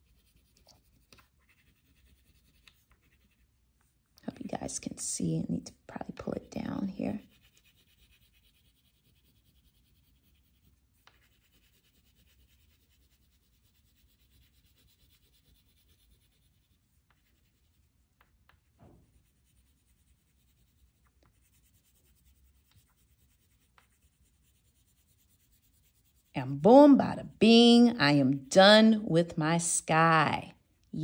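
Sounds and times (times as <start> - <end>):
colouring strokes rubbing paper: 0.0 - 31.0.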